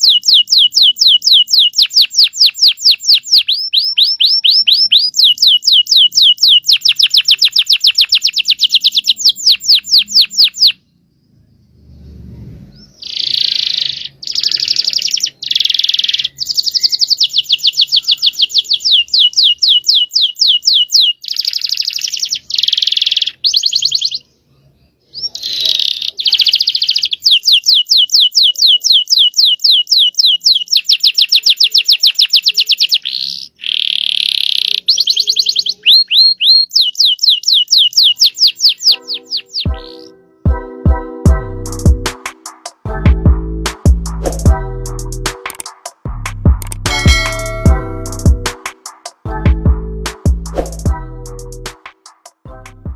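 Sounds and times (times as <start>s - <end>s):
canary singing trills: 0.0s - 43.0s.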